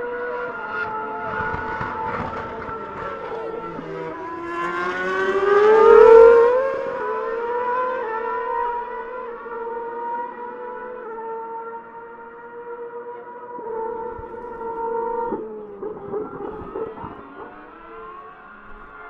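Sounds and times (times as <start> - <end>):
race car accelerating: 0.0 - 19.0
racing car engines: 0.0 - 19.0.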